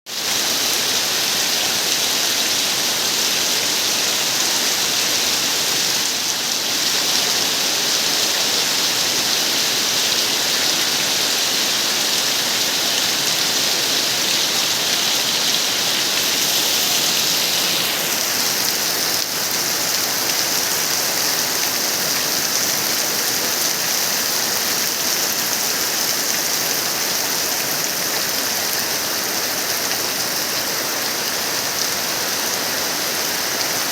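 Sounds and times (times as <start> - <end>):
heavy rain hissing: 0.1 - 33.9.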